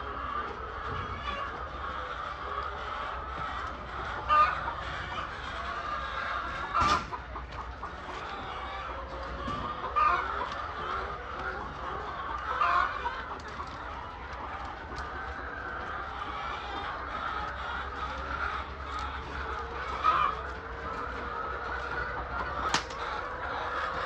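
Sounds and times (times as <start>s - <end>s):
hens clucking: 0.0s - 24.0s
loud hen calls: 0.0s - 24.0s.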